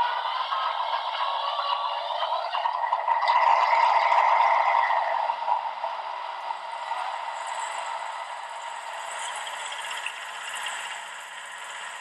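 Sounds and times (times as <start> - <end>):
diesel locomotive engine through small speaker: 0.0 - 12.0.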